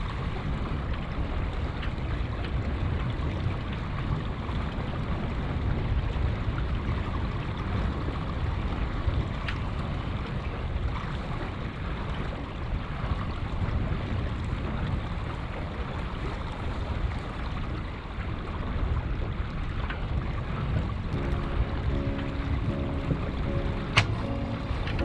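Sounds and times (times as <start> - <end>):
water washing along hull: 0.0 - 25.0
wind buffeting microphone: 0.0 - 25.0.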